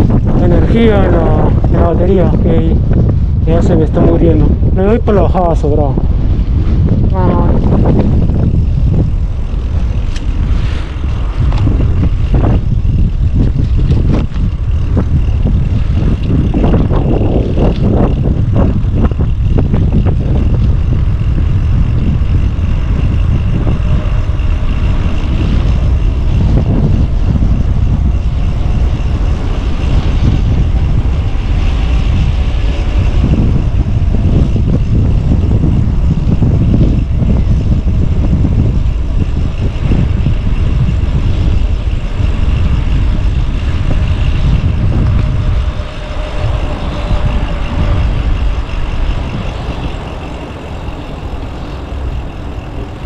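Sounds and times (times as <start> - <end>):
road and tyre noise: 0.0 - 53.0
wind buffeting microphone: 0.0 - 53.0
bicycle bumps: 7.8 - 53.0.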